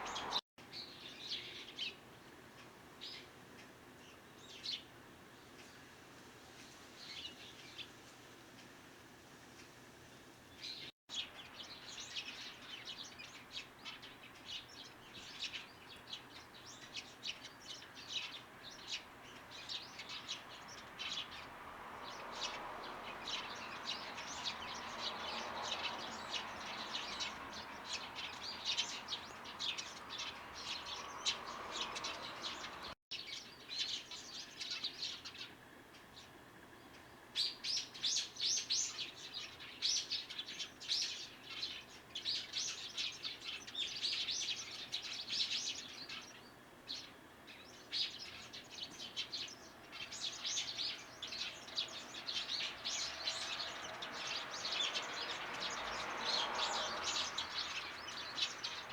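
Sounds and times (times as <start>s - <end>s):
small birds chirping: 0.0s - 8.7s, 9.5s - 58.9s.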